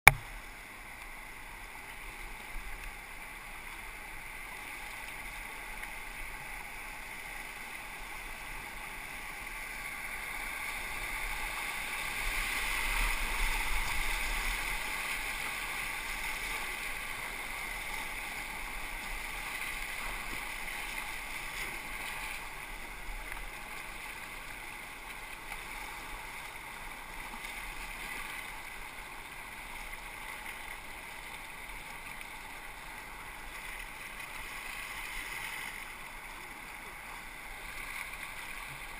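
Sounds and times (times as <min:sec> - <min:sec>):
whitewater rushing around kayak: 0:00.1 - 0:38.9.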